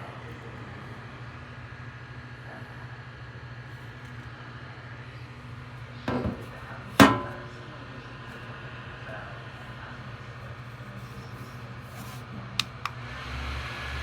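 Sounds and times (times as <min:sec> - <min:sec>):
neck fan humming: 0:00.0 - 0:14.0.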